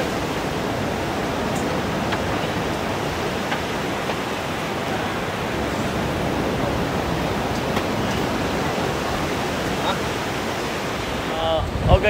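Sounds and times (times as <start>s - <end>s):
sea surf breaking on a beach: 0.0s - 12.0s.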